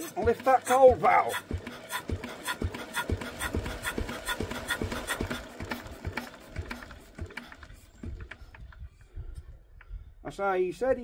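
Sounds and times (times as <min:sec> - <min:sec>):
engine cranked by hand clicking: 0:00.0 - 0:10.0.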